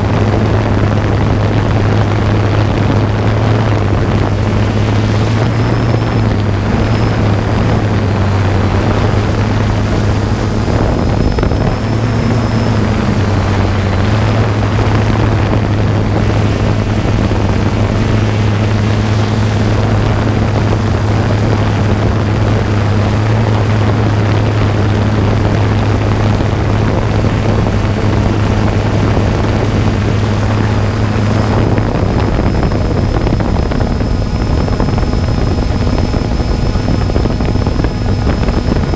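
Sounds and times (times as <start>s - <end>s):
drone propellers humming: 0.0s - 38.9s
high motor whine: 0.0s - 38.9s.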